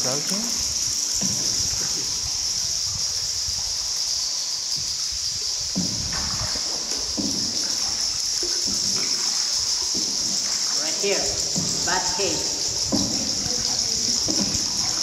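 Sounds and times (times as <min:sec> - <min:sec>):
high-pitched hiss: 0:00.0 - 0:15.0
water lapping around boat: 0:00.0 - 0:15.0.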